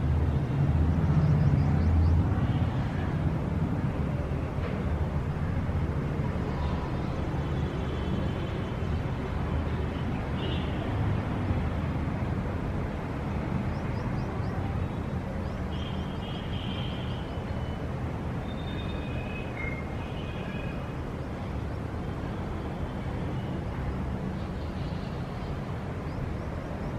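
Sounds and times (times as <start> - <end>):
city traffic rumble: 0.0 - 26.9.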